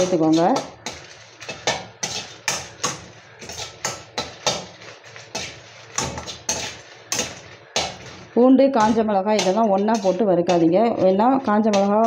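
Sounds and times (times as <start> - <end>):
ladle scraping steel pan: 0.0 - 12.0.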